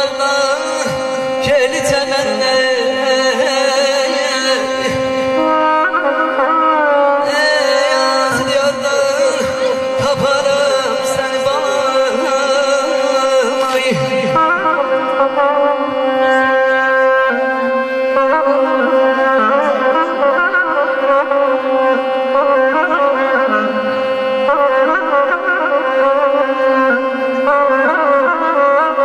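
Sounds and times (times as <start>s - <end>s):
double-reed pipe folk melody: 0.0s - 29.0s
held drone note: 0.0s - 29.0s.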